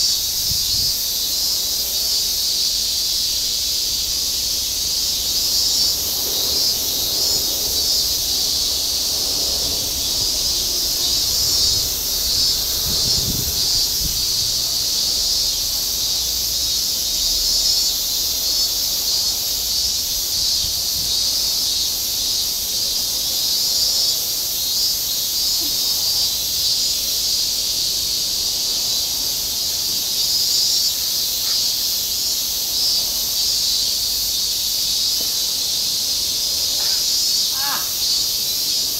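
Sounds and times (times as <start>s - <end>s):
cicadas droning: 0.0s - 38.9s.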